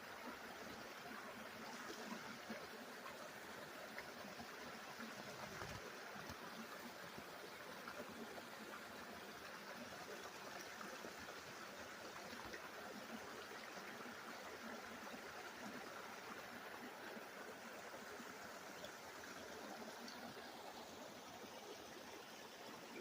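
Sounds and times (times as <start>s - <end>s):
stream running water: 0.0s - 23.0s.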